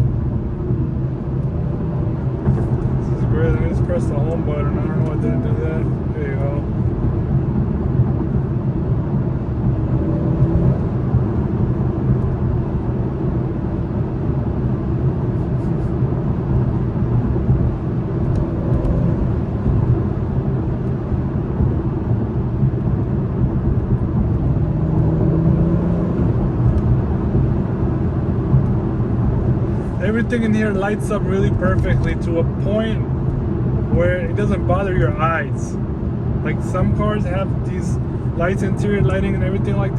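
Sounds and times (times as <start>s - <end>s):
car engine hum: 0.0s - 39.9s
road and tyre rumble: 0.0s - 39.9s.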